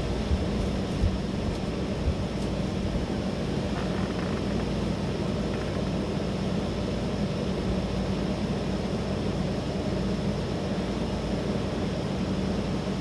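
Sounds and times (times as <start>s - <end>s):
constant low hum: 0.0s - 13.0s
low outdoor rumble: 0.0s - 13.0s.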